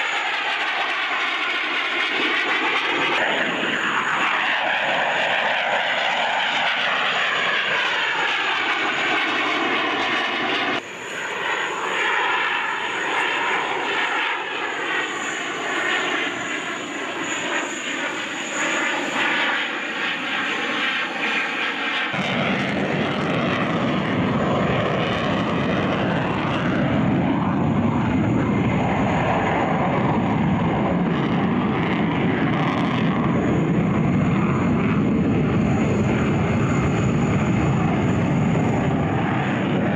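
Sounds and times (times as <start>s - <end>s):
jet engine flying past: 0.0s - 39.9s.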